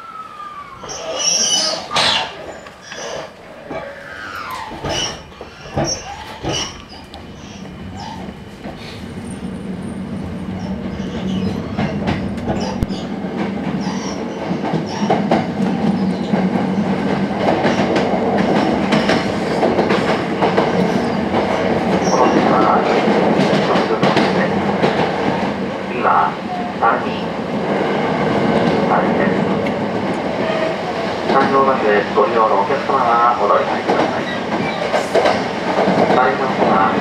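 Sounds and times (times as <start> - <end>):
train running noise: 0.0 - 37.0.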